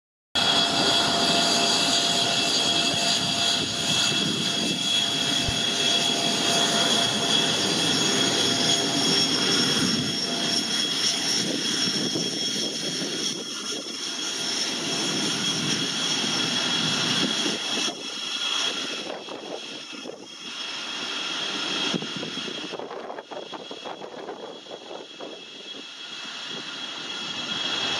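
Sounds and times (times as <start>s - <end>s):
jet engines idling whine: 0.4s - 27.9s
jet exhaust rushing: 0.4s - 27.9s.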